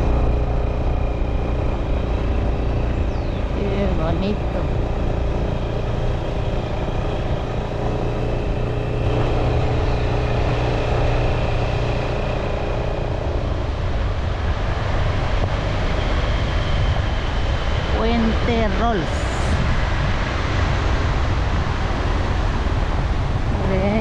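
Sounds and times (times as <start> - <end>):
road rumble: 0.0 - 24.0
vehicle engine running: 0.0 - 24.0
wind: 0.0 - 24.0.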